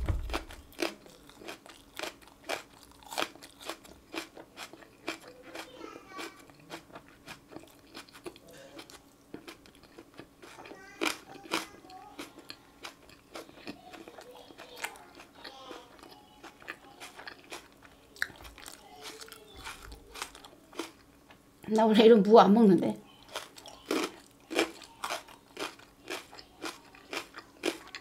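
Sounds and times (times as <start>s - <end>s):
crunchy food being chewed: 0.0s - 21.4s, 23.1s - 28.0s.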